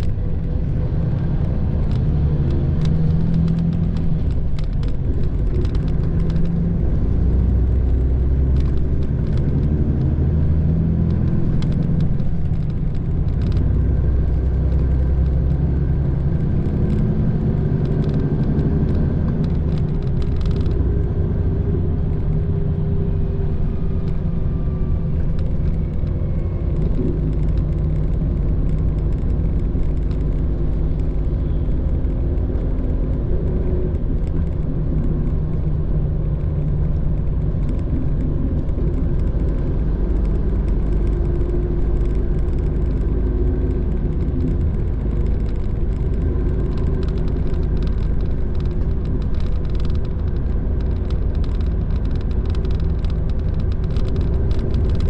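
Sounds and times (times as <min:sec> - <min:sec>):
diesel engine rumble: 0:00.0 - 0:55.0
road noise: 0:00.0 - 0:55.0.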